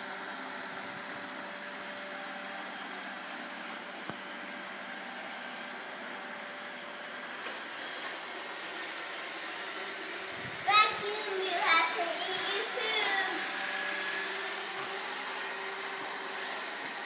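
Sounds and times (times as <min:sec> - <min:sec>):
robot vacuum whirring: 0:00.0 - 0:17.0.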